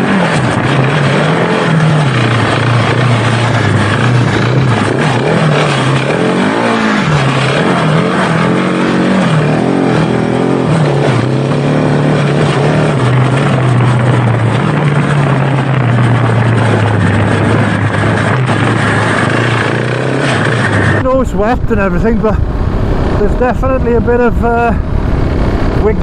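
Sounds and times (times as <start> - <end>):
motorcycle engine under load: 0.0 - 26.0.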